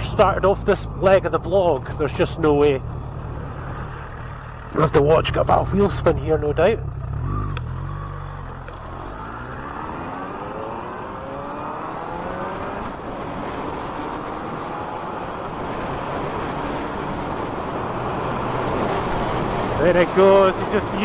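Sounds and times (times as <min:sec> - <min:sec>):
motorcycle engine accelerating: 0:00.0 - 0:21.0
wind and road rush: 0:00.0 - 0:21.0.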